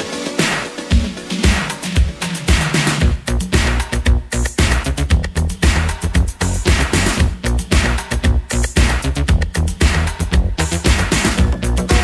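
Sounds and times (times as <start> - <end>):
dance music with heavy beat: 0.0 - 12.0.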